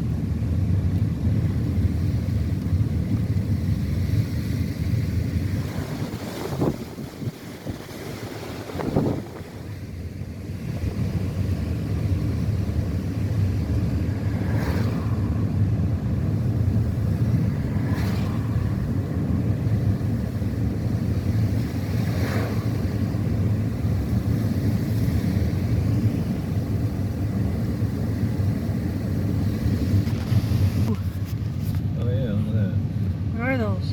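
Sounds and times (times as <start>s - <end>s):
car driving rumble: 0.0s - 33.9s
road and wind noise: 0.0s - 33.9s.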